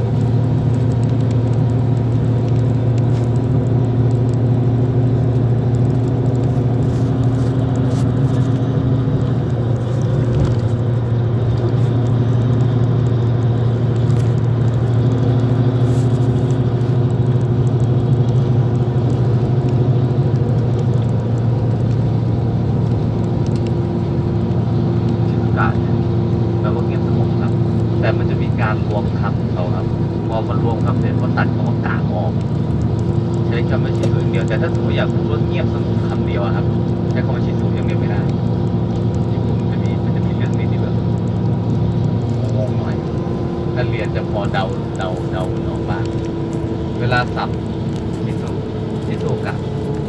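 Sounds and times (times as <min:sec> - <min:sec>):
vehicle engine drone from inside: 0:00.0 - 0:50.0.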